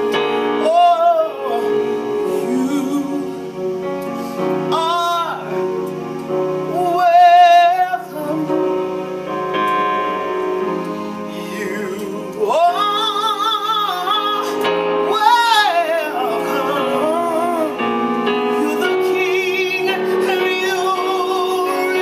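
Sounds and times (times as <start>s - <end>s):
woman singing gospel: 0.0s - 5.9s, 6.7s - 9.0s, 11.3s - 22.0s
sustained instrumental accompaniment: 0.0s - 22.0s.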